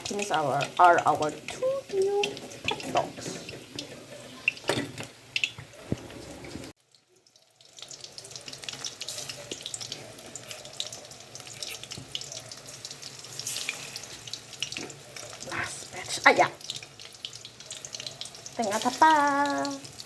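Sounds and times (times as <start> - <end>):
chicken deep-frying in oil: 0.0 - 20.0.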